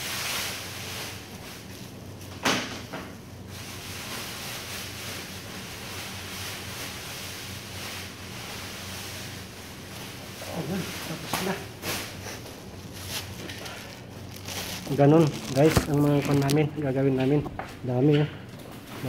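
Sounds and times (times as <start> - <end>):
plastic sack rustling: 0.0 - 2.4, 3.5 - 17.4
steady hum: 0.0 - 19.0.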